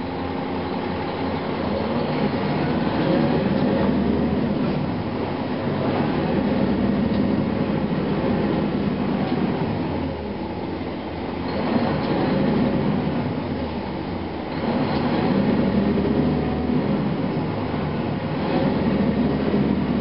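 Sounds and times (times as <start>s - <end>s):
bus diesel engine running: 0.0s - 20.0s
road noise: 0.0s - 20.0s.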